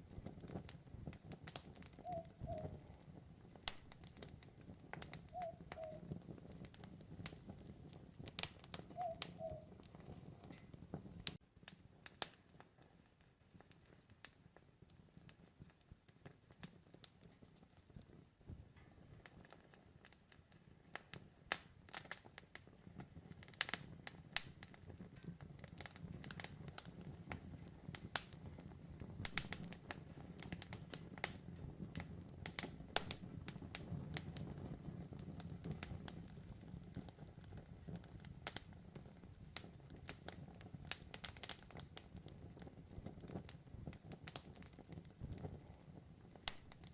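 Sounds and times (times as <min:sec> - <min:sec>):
low rumble of flames: 0:00.0 - 0:46.9
wood crackling and popping: 0:00.0 - 0:46.9.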